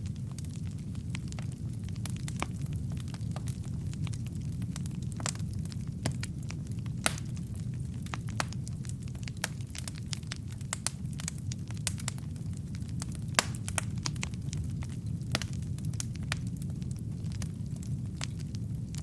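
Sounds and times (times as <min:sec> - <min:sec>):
burning logs crackling and popping: 0:00.0 - 0:19.0
fire flames rumbling: 0:00.0 - 0:19.0.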